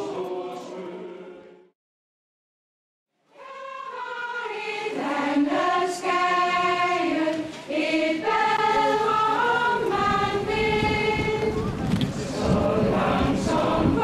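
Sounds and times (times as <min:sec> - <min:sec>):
choir singing held chords: 0:00.0 - 0:01.8, 0:03.3 - 0:14.0.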